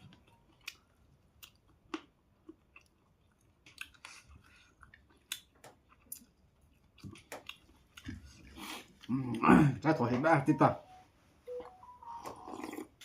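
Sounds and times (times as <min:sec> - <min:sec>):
person chewing: 0:00.0 - 0:09.6, 0:11.5 - 0:13.0.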